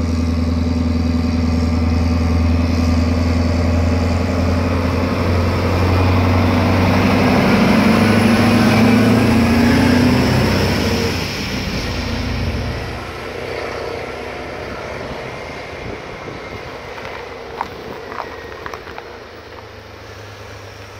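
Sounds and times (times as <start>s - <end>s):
diesel truck engine passing: 0.0s - 20.9s.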